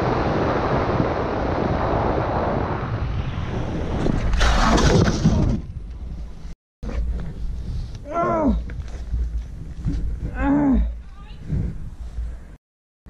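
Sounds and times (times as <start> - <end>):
wind and road noise: 0.0 - 12.6.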